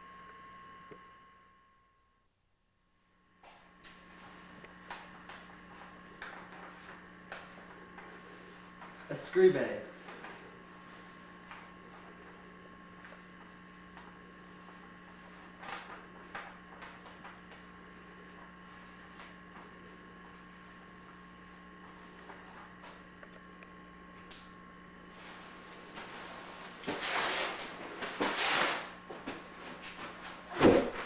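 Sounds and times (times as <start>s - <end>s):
faint electrical hum: 0.0s - 31.0s.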